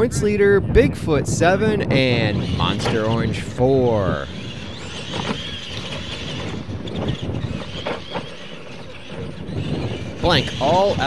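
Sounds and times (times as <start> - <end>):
rc trucks drive noise: 1.2 - 11.0.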